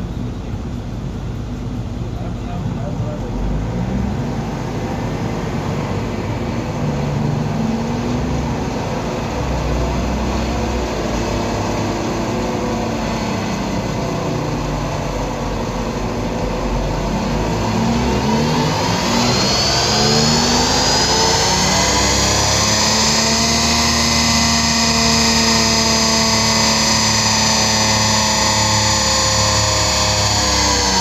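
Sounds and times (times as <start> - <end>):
diesel engine running under load: 0.0 - 31.0.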